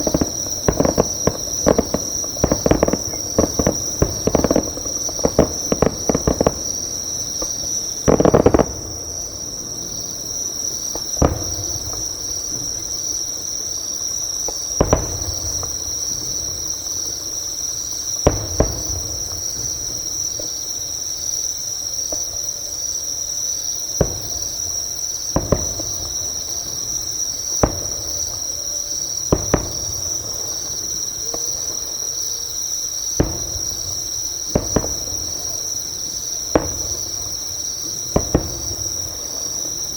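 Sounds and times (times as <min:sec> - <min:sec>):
distant fireworks booms: 0:00.0 - 0:39.9
insects trilling: 0:00.0 - 0:39.9.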